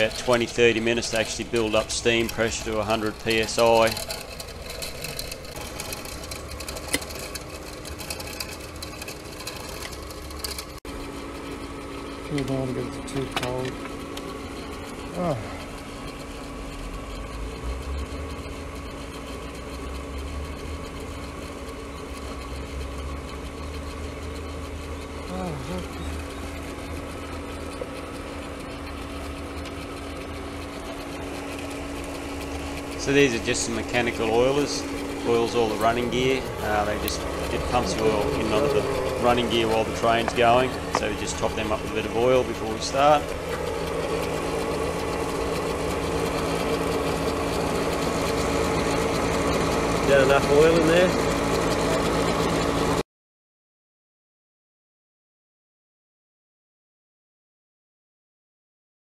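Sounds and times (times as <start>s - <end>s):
fan motor running: 0.0s - 53.0s.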